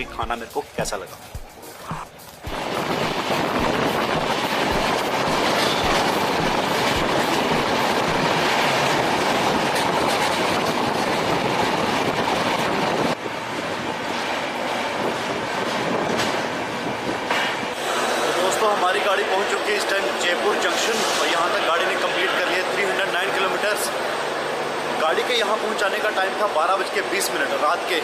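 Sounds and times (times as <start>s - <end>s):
train wheels rumbling on rails: 2.2s - 28.0s.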